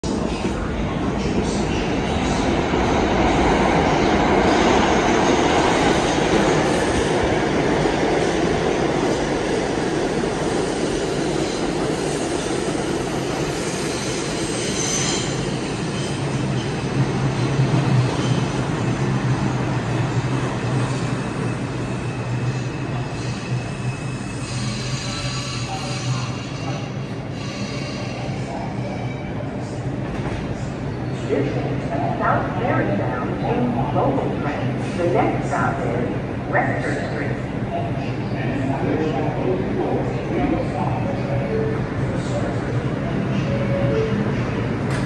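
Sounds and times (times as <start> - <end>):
subway train wheels rumbling on rail: 0.0 - 45.0.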